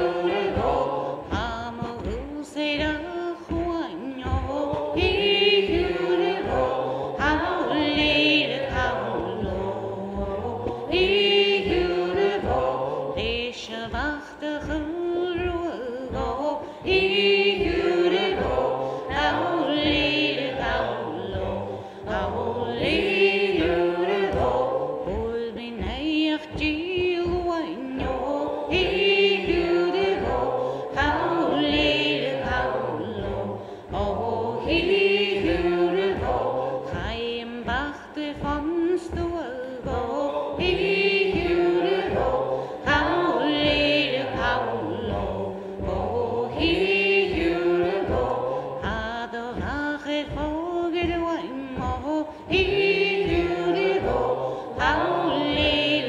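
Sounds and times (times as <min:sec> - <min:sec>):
group singing in chorus: 0:00.0 - 0:56.0.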